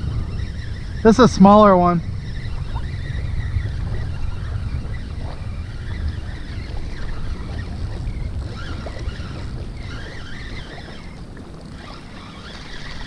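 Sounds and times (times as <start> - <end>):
moving water: 0.0 - 13.0
wind buffeting microphone: 0.0 - 13.0.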